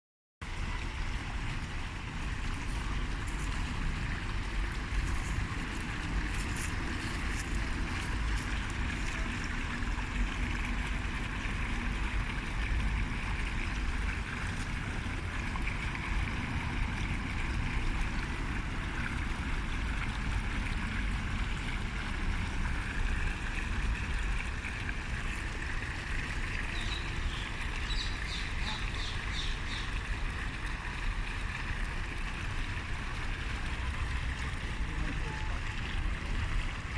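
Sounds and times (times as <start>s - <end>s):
fountain water splashing: 0.4s - 36.9s.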